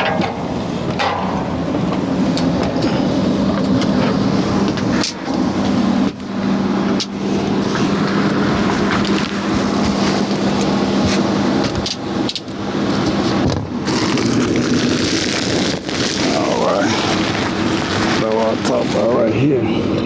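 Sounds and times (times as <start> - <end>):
machine running with low hum: 0.0 - 20.0.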